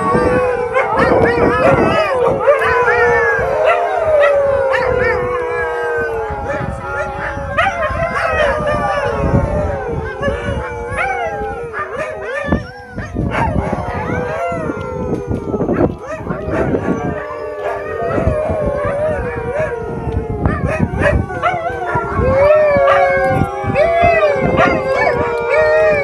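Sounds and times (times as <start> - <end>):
dogs howling together: 0.0 - 26.0.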